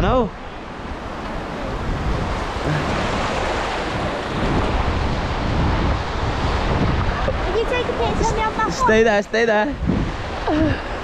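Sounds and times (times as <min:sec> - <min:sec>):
sea surf washing in: 0:00.0 - 0:11.0
wind buffeting microphone: 0:00.0 - 0:11.0.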